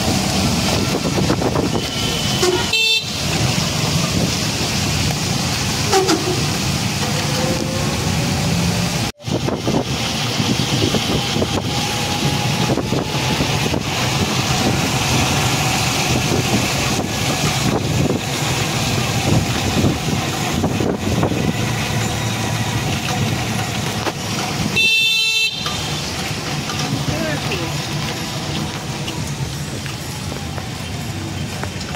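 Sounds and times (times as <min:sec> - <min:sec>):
vehicle engine and road noise: 0:00.0 - 0:31.9.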